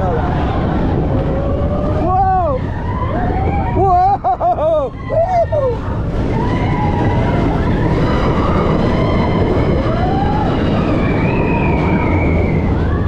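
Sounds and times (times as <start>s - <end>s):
roller coaster rumbling on rails: 0.0s - 13.0s.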